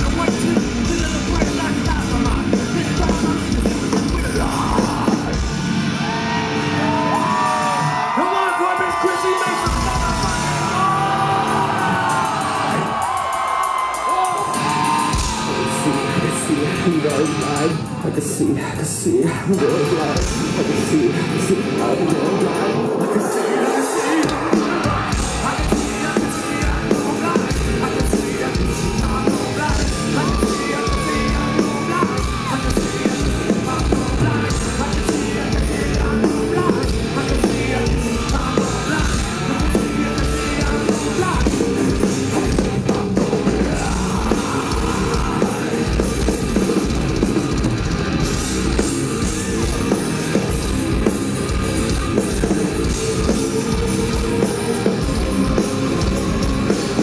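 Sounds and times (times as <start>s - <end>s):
pounding drum beat: 0.0s - 5.7s, 8.6s - 18.2s, 19.3s - 57.0s
singer yelling: 0.0s - 46.9s
heavy metal band playing: 0.0s - 57.0s.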